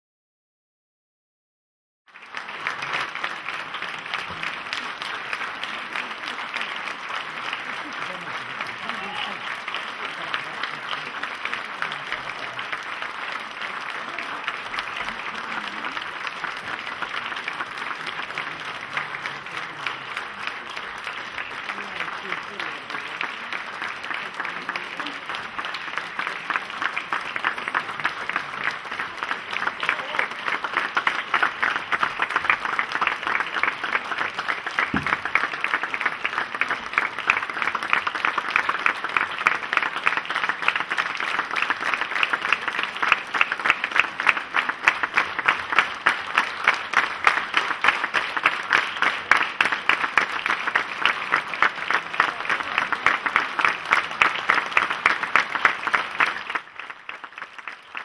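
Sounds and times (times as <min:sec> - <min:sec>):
audience applauding: 0:02.1 - 0:58.0.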